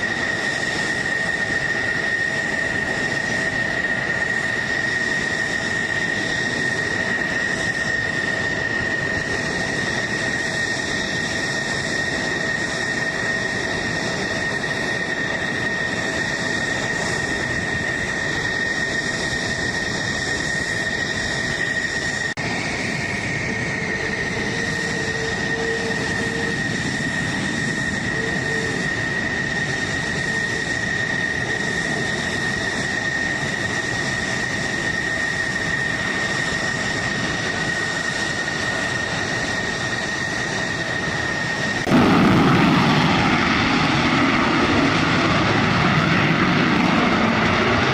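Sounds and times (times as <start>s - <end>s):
jet engine roaring: 0.0s - 47.9s.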